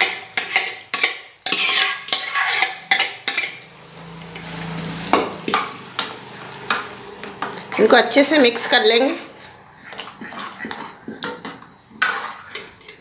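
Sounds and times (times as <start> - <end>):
spoon scraping metal pot: 0.0 - 13.0.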